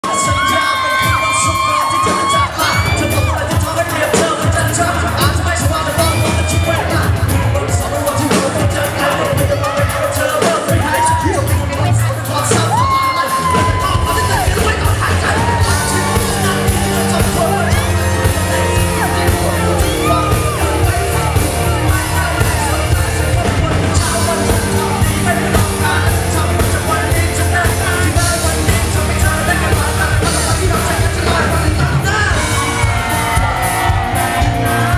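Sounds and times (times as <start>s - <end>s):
man singing into a microphone: 0.0s - 33.6s
live band music: 0.0s - 34.9s.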